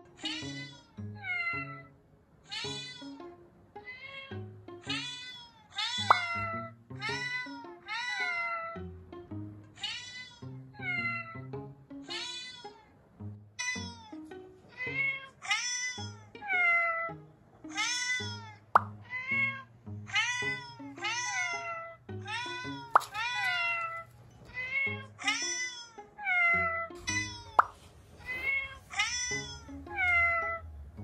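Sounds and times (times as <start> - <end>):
background music: 0.0 - 31.0
cat meowing: 0.2 - 1.9, 2.5 - 3.2, 3.8 - 8.8, 9.8 - 11.4, 12.1 - 12.9, 14.8 - 30.7.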